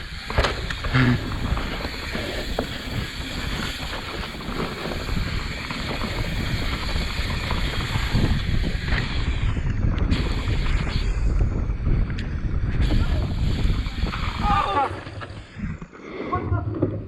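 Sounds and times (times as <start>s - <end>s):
bike knocks and rattles: 0.0s - 15.5s
wind rushing over microphone: 0.0s - 16.7s
mountain bike on dirt trail: 0.0s - 17.0s.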